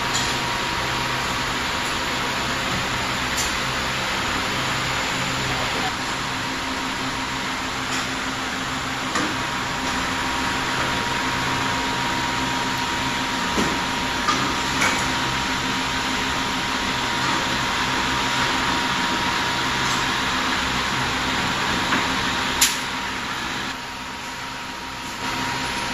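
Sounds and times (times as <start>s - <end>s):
fan-like machine whir: 0.0s - 25.9s.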